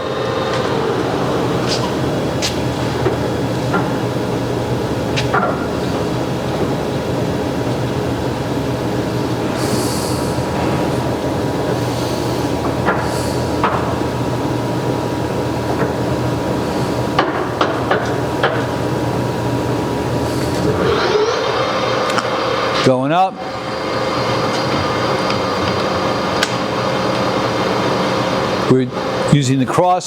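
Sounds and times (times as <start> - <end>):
lathe humming and whining: 0.0 - 30.0.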